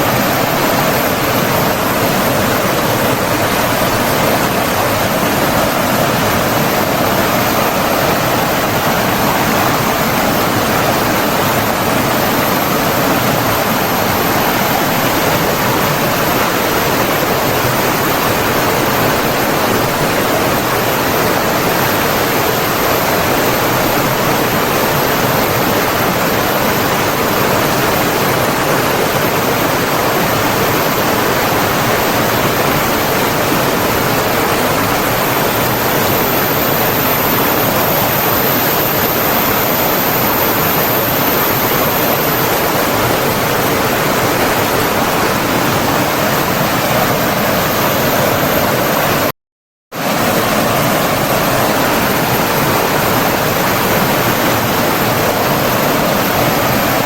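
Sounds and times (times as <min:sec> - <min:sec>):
flowing water rushing: 0:00.0 - 0:49.3, 0:50.0 - 0:57.0.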